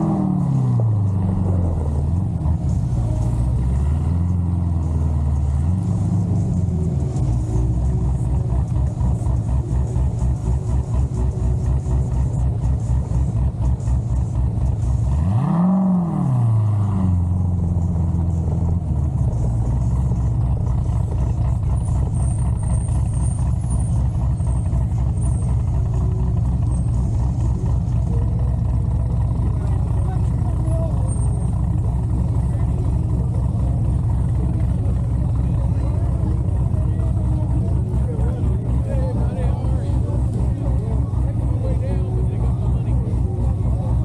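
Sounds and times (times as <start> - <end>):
car engine lumpy idle: 0.0 - 44.0.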